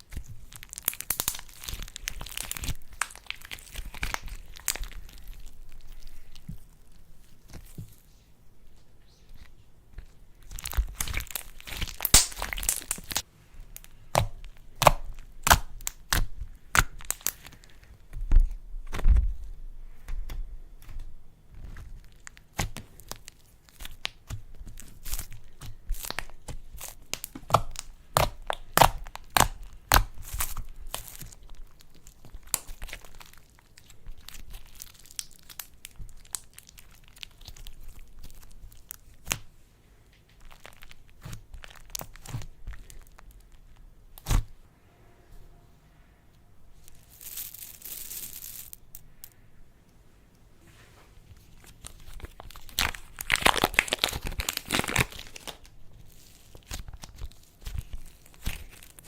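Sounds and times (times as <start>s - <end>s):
slime crackling and popping: 0.0s - 7.9s, 10.0s - 19.6s, 20.8s - 39.5s, 40.2s - 44.5s, 51.6s - 59.0s
slime squishes: 0.0s - 39.6s, 40.2s - 44.6s, 51.3s - 59.0s.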